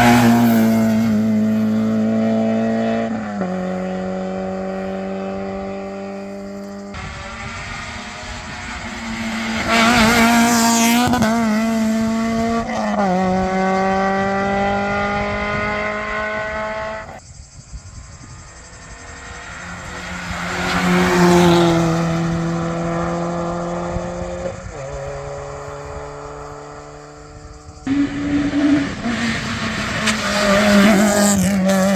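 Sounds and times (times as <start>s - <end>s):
rally car engine at full throttle: 0.0s - 31.9s.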